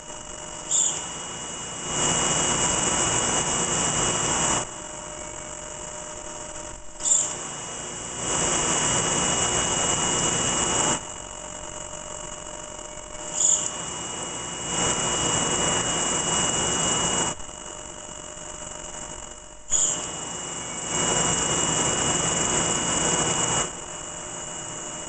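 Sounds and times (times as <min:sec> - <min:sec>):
machine drill high whine: 0:00.0 - 0:25.0.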